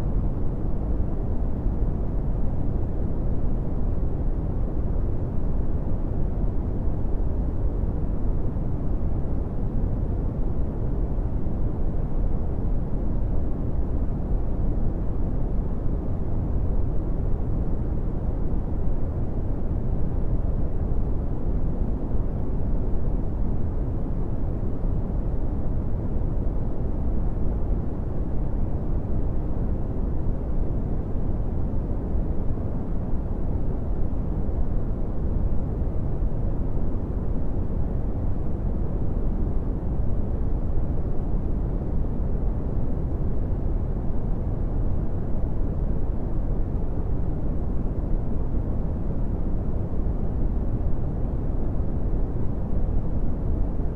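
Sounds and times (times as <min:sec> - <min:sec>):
brown noise rumbling hiss: 0:00.0 - 0:53.9.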